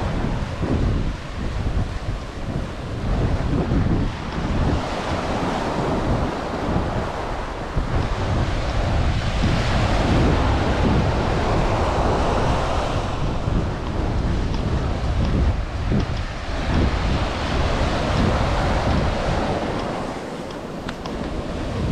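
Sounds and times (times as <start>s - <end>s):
ocean surf breaking on beach: 0.0s - 21.9s
wind buffeting microphone: 0.0s - 21.9s.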